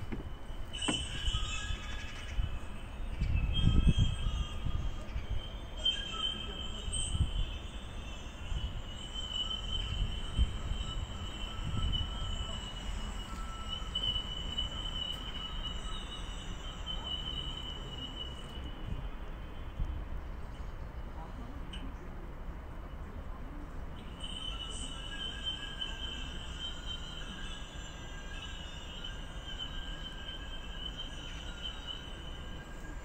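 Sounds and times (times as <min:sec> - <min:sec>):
high-pitched whine: 0:00.0 - 0:19.5, 0:24.0 - 0:33.0.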